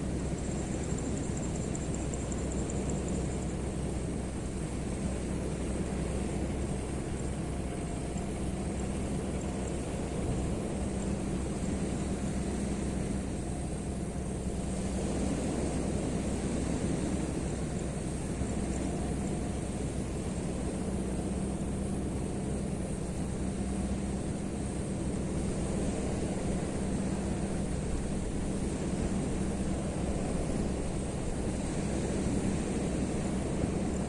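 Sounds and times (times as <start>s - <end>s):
engine drone: 0.0s - 34.0s.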